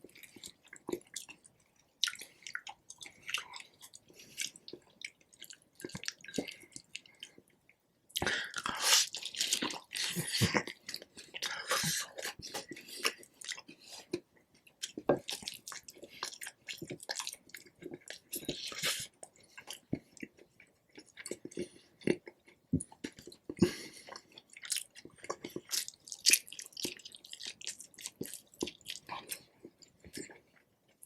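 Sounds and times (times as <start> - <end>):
chewing with mouth clicks: 0.0 - 31.0.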